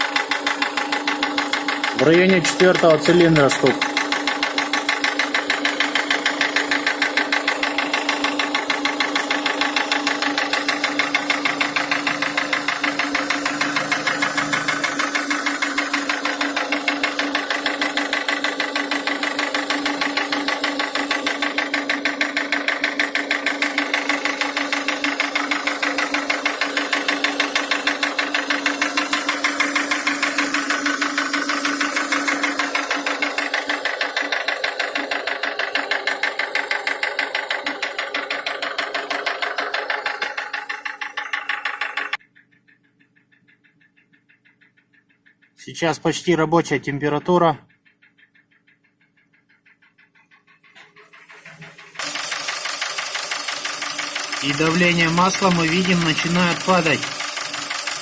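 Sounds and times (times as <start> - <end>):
engine idling with rhythmic knock: 0.0 - 58.0.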